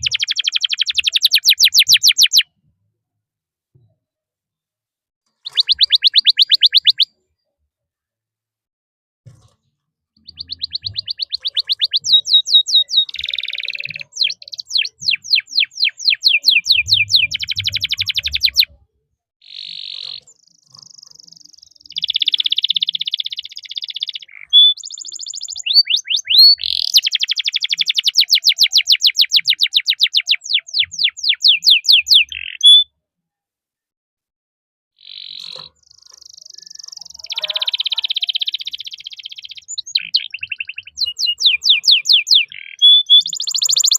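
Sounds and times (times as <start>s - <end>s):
canary singing trills: 0.0s - 2.5s, 5.4s - 7.2s, 10.2s - 18.8s, 19.4s - 32.9s, 35.0s - 43.9s.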